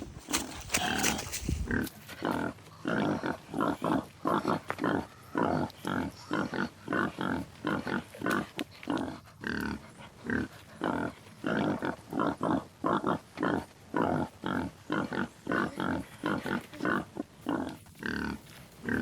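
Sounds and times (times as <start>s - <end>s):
animal grunting: 0.2s - 19.0s.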